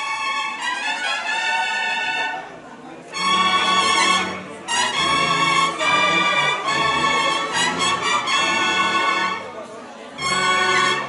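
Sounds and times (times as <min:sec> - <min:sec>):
wind band playing a march: 0:00.0 - 0:02.5, 0:03.1 - 0:09.6, 0:10.2 - 0:11.0.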